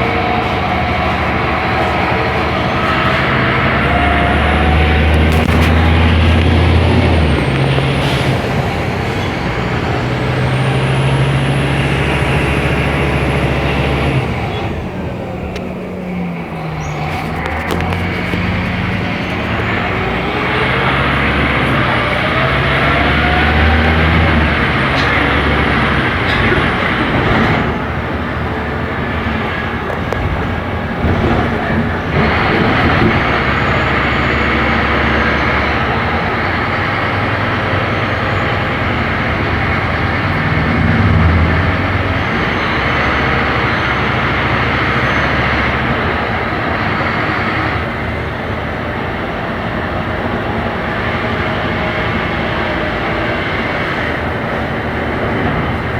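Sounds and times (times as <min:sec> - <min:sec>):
bus engine accelerating: 0:00.0 - 0:55.9.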